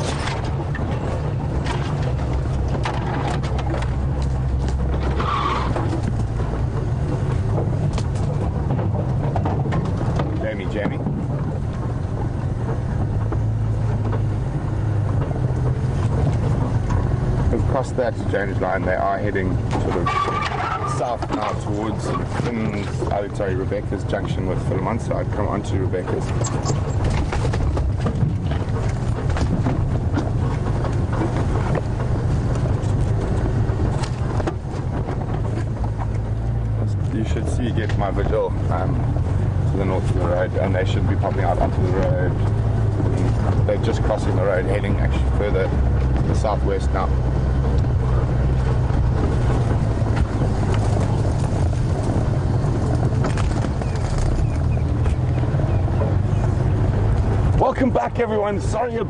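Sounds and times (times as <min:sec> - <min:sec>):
vehicle engine running: 0:00.0 - 0:59.0
vehicle knocks and rattles: 0:00.0 - 0:59.0.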